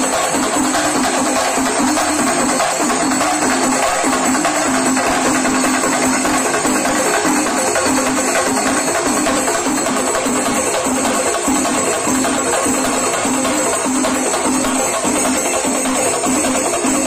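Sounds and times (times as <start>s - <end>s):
drum band beating fast rhythm: 0.0s - 17.0s.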